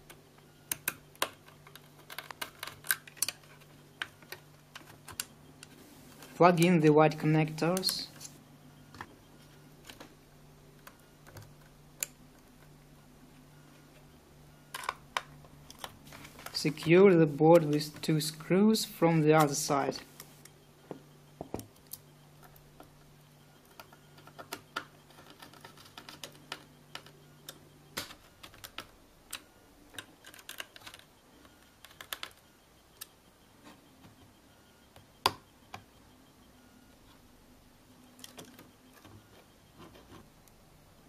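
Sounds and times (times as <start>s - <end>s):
faint low hum: 0.0s - 41.0s.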